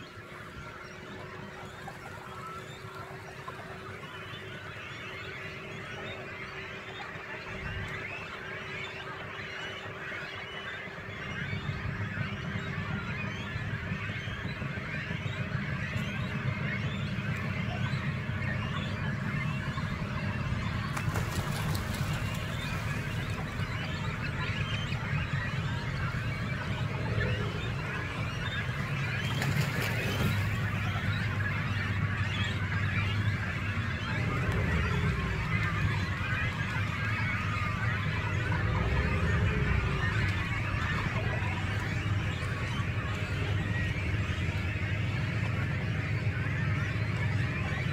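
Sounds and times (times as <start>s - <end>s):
low steady rumble: 0.0s - 47.9s
waterbirds chattering: 0.0s - 47.9s.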